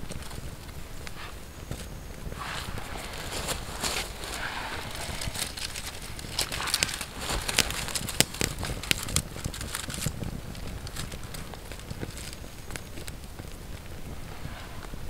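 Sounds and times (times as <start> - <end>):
dry twigs rustling: 0.0 - 15.0
small fire crackling and popping: 0.0 - 15.0.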